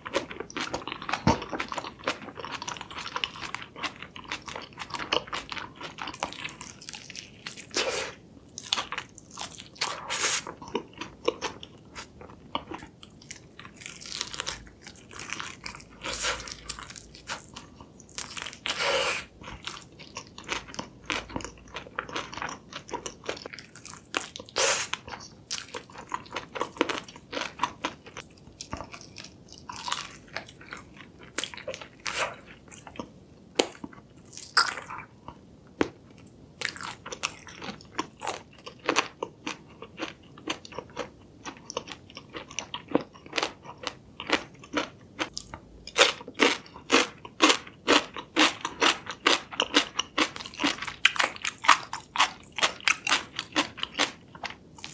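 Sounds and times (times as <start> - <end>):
crunchy chewing of fried chicken: 0.0 - 54.9.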